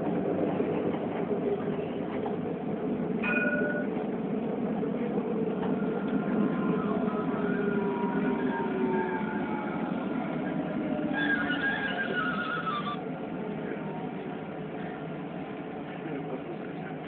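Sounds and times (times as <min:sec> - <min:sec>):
tram wheels rumbling on rail: 0:00.0 - 0:17.0.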